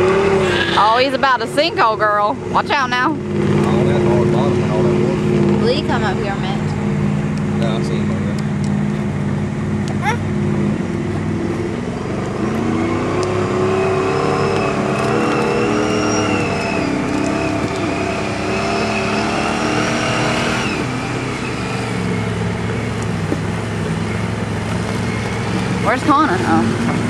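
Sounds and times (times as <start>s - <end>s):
pickup engine revving in mud: 0.0s - 27.0s.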